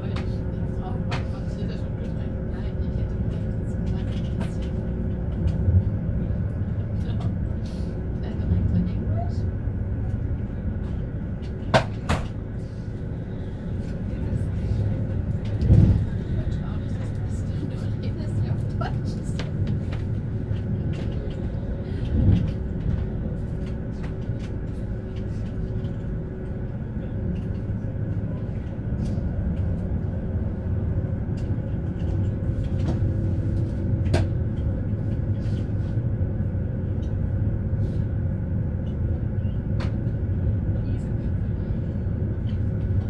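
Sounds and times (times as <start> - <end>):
vehicle rumble from inside: 0.0 - 43.0.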